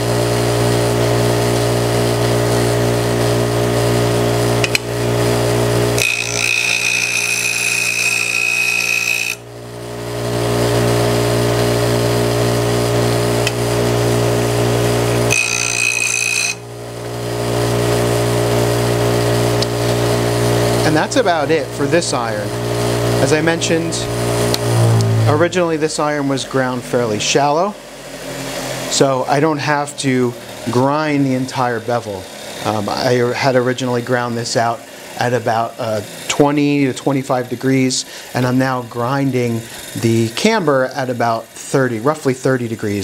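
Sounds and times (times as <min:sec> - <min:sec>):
bench grinder humming: 0:00.0 - 0:41.6
steel blade grinding whine: 0:00.0 - 0:42.0.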